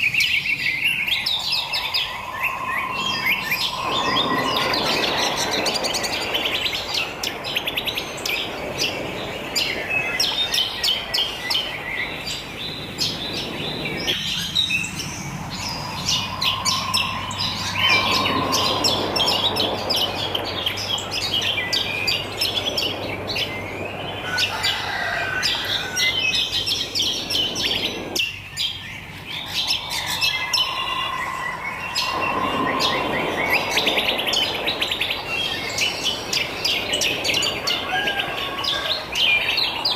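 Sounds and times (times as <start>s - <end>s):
birds chirping and singing: 0.0s - 39.9s
outdoor nature ambience: 0.0s - 39.9s.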